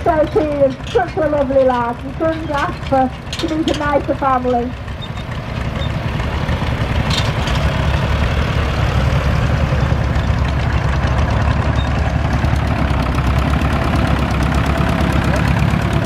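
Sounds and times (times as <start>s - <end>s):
diesel tractor engine rumbling: 0.0s - 16.0s.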